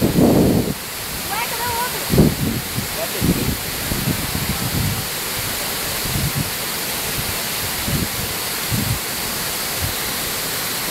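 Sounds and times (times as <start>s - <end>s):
wind buffeting microphone: 0.0s - 10.1s
waterfall rushing: 0.0s - 10.9s.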